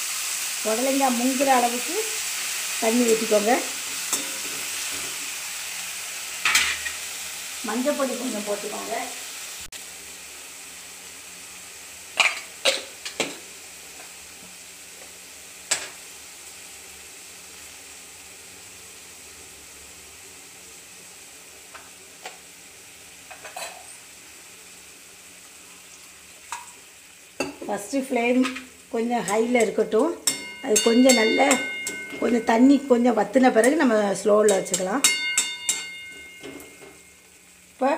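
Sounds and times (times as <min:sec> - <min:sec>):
water sizzling in a wok: 0:00.0 - 0:37.9.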